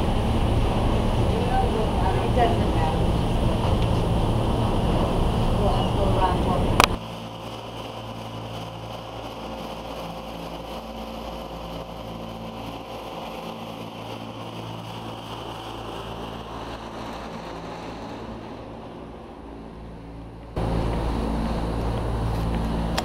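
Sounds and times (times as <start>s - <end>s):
air noise: 0.0s - 23.0s
low machine hum: 0.0s - 23.0s.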